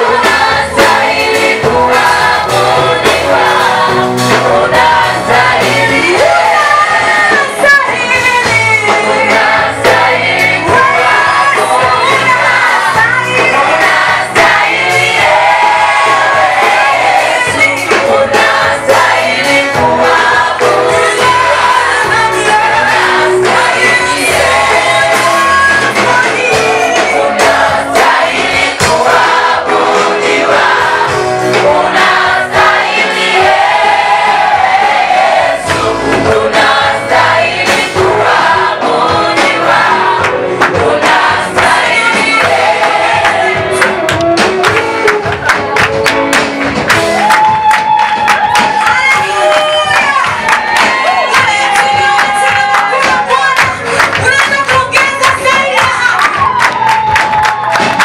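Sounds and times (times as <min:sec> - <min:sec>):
choir singing praise song: 0:00.0 - 0:45.5, 0:46.8 - 0:58.0
band with steady beat: 0:00.0 - 0:58.0.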